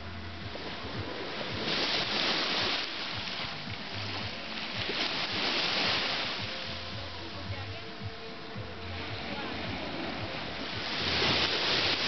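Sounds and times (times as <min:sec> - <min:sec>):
small waves washing on beach: 0:00.0 - 0:12.0.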